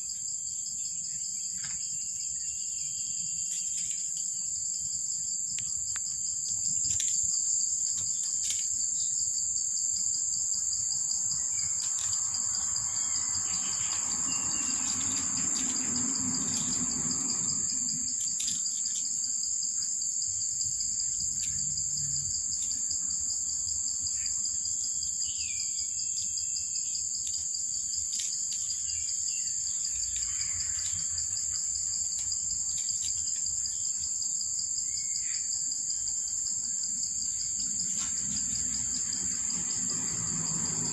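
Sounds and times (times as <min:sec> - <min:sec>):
insects chorus: 0:00.0 - 0:40.9.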